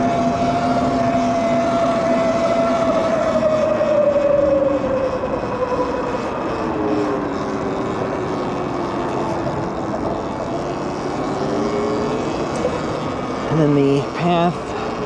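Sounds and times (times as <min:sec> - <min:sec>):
electric bike motor whining: 0:00.0 - 0:13.9.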